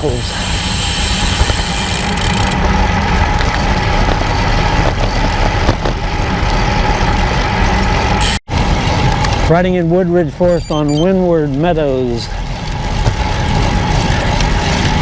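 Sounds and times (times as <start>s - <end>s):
bicycle tyres rolling on asphalt: 0.0s - 15.0s.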